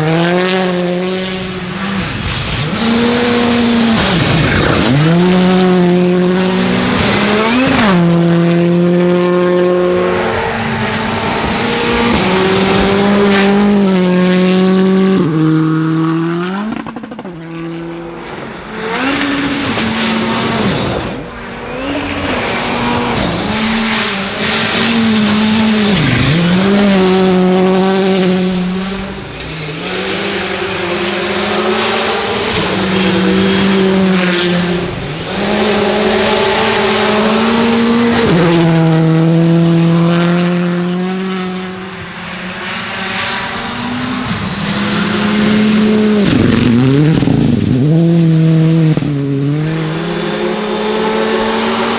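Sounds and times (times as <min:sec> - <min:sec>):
rally car engine revving hard: 0:00.0 - 0:51.9.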